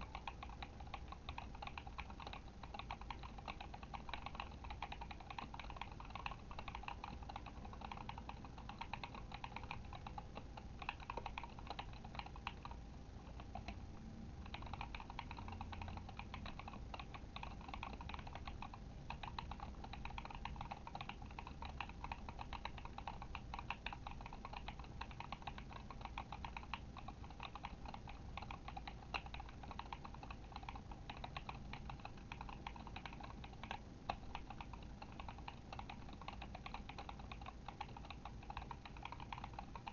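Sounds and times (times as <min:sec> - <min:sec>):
mechanical keyboard typing: 0:00.0 - 0:13.8, 0:14.4 - 0:39.9.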